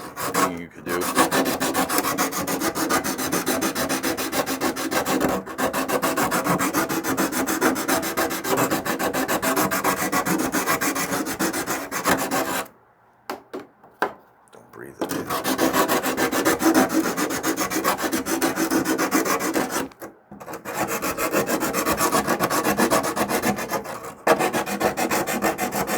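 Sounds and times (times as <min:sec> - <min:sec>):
hand sanding plastic: 0:00.0 - 0:12.7, 0:15.0 - 0:25.9.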